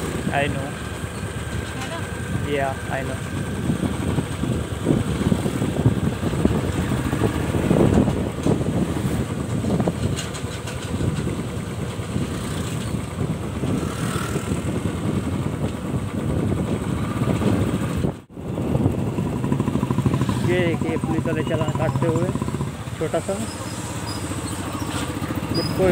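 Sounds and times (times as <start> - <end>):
motorcycle engine and road rumble: 0.0 - 25.9.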